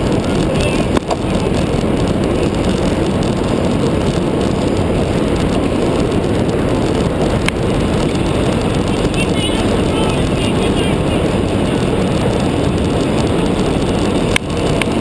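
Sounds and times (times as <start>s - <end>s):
road rumble: 0.0s - 15.0s
wind rush on microphone: 0.0s - 15.0s.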